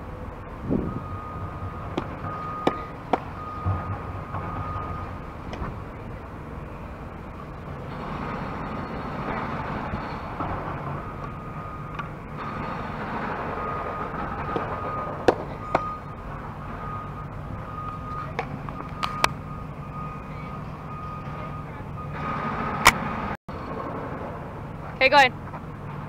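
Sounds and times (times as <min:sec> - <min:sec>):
background rumble: 0:00.0 - 0:26.0.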